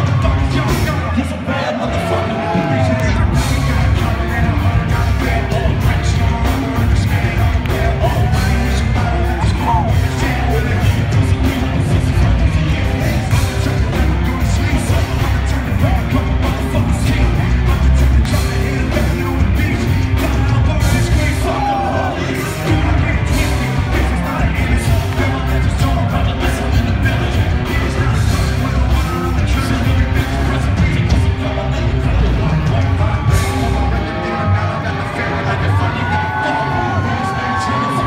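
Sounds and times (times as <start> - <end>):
live rap-rock band playing: 0.0 - 38.0
person singing into a microphone: 0.0 - 38.0.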